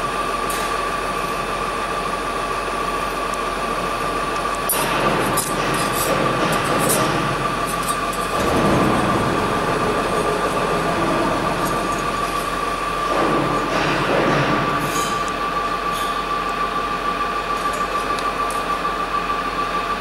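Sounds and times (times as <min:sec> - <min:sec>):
machinery high whine: 0:00.0 - 0:20.0.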